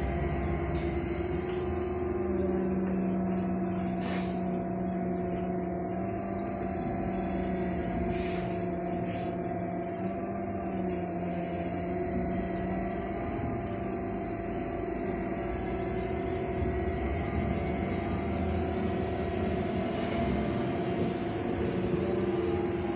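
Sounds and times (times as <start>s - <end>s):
trolleybus electrical hum: 0.0s - 22.9s.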